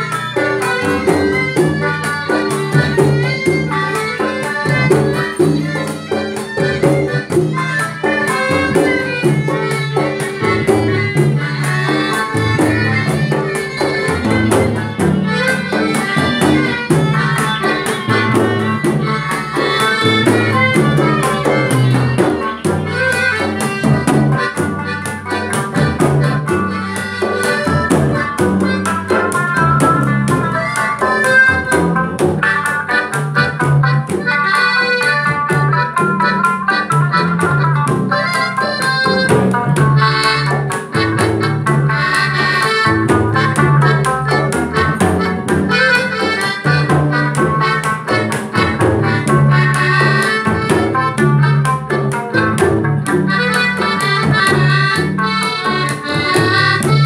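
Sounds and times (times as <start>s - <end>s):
accordion: 0.0s - 57.0s
barrel drum: 0.0s - 57.0s
electric guitar: 0.0s - 57.0s
frame drum: 0.0s - 57.0s
lute: 0.0s - 57.0s
violin: 0.0s - 57.0s.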